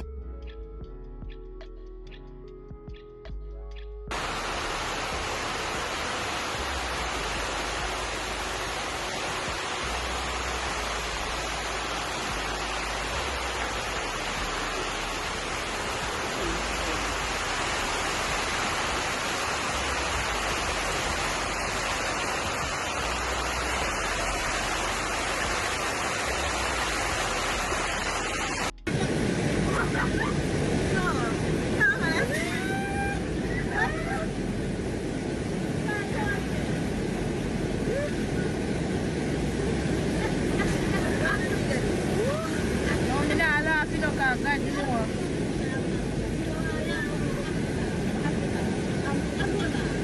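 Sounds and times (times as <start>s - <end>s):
heavy rain hissing: 4.1s - 50.0s
wind rumble on microphone: 4.1s - 50.0s.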